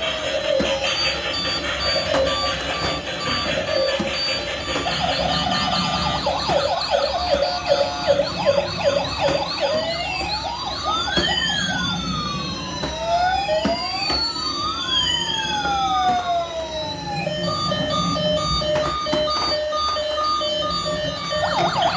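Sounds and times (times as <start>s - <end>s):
police car siren: 0.0s - 21.9s.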